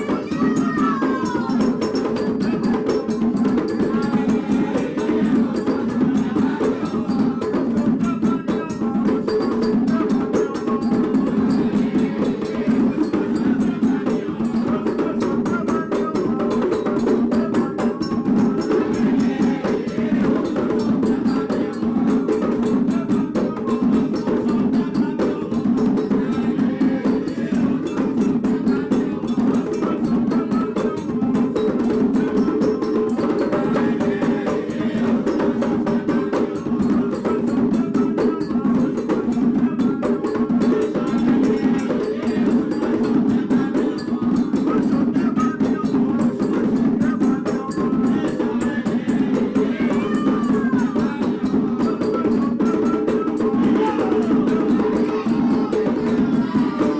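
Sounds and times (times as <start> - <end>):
hand drums playing fast rhythm: 0.0 - 56.9.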